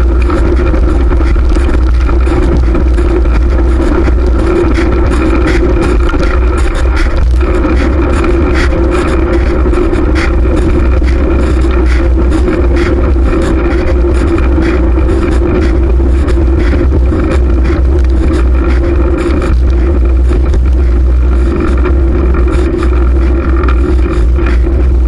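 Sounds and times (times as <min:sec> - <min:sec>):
bicycle tyre noise: 0:00.0 - 0:25.0
wind buffeting microphone: 0:00.0 - 0:25.0.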